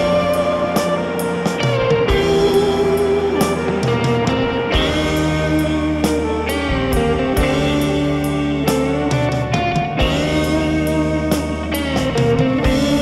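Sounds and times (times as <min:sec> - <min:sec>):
held chords: 0:00.0 - 0:13.0
regular drum hits: 0:00.0 - 0:13.0.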